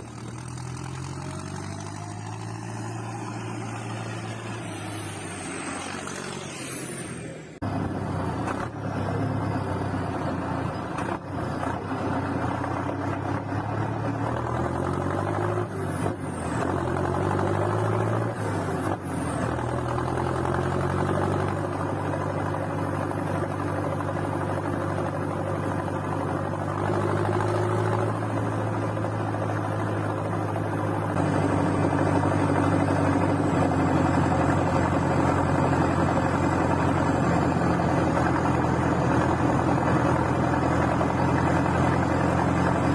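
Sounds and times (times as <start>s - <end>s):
tractor diesel engine revving: 0.0s - 42.9s.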